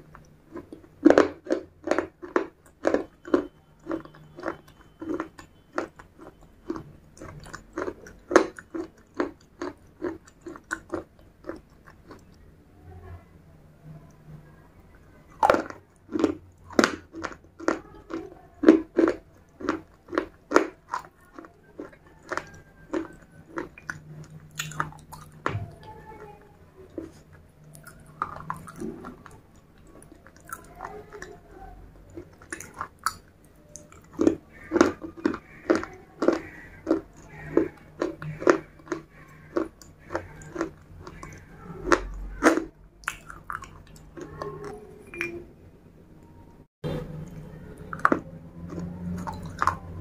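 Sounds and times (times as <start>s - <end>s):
crunching and chewing: 0.0s - 12.4s, 14.8s - 45.3s, 46.8s - 50.0s.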